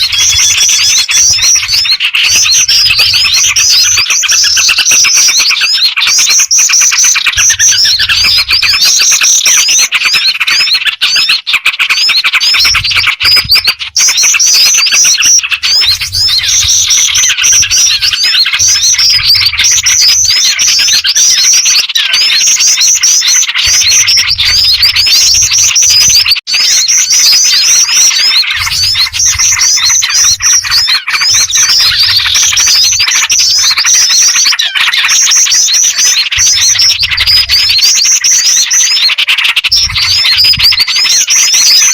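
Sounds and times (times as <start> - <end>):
birds chirping and twittering: 0.0 - 41.9.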